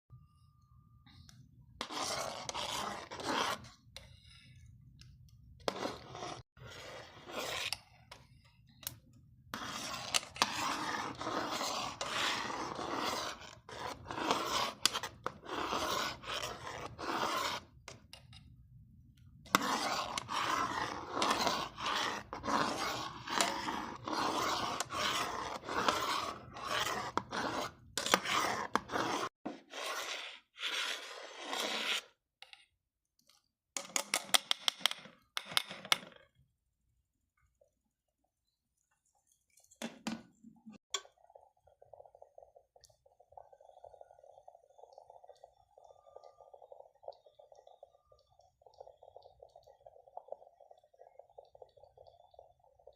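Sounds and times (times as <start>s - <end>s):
utensil scraping a cooking pot: 1.8s - 18.5s, 19.4s - 32.2s, 39.4s - 52.9s.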